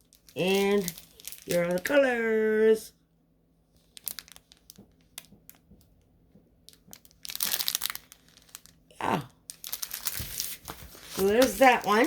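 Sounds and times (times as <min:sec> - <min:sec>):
plastic crinkling: 0:00.0 - 0:02.2, 0:03.8 - 0:12.0.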